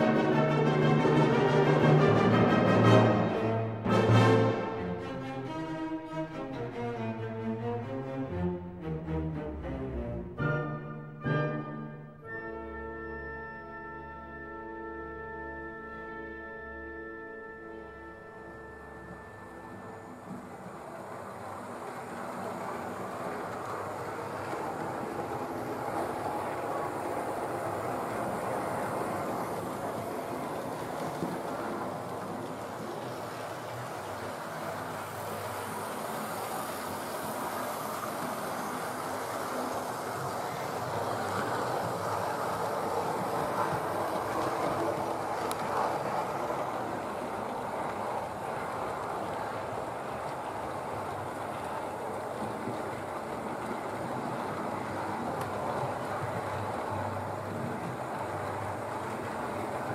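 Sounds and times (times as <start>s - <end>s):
model train running on track: 0.0s - 59.9s.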